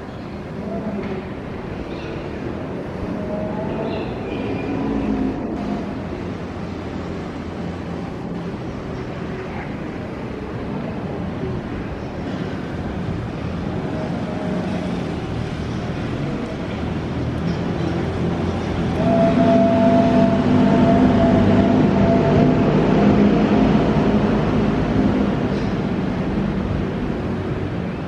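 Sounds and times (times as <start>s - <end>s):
city traffic rumble: 0.0s - 28.0s.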